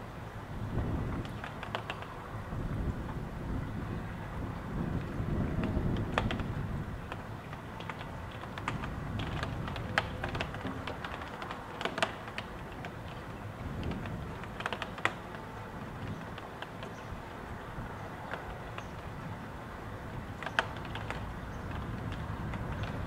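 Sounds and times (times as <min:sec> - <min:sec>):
gusting wind rumble: 0:00.0 - 0:23.0
raindrops tapping on window: 0:00.8 - 0:03.3, 0:04.3 - 0:23.0.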